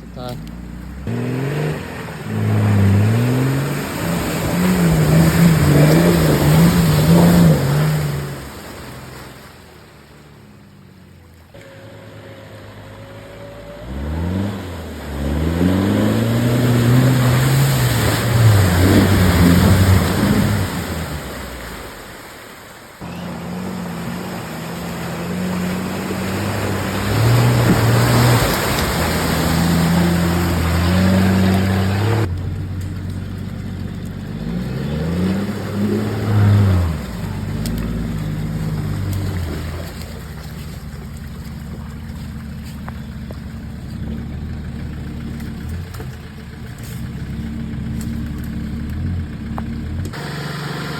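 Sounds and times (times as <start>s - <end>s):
off-road engine revving: 0.0s - 22.1s, 23.0s - 50.9s
tyre and terrain noise: 0.0s - 50.9s.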